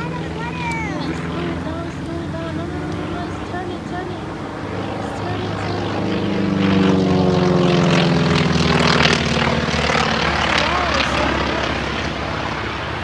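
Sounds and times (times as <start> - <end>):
propeller airplane flying past: 0.0 - 13.0.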